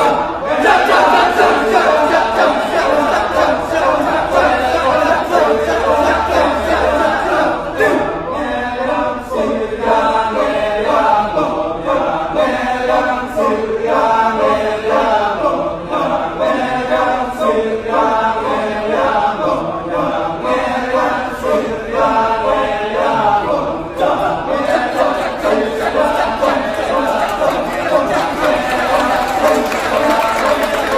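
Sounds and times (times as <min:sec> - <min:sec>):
group of voices chanting: 0:00.0 - 0:30.9.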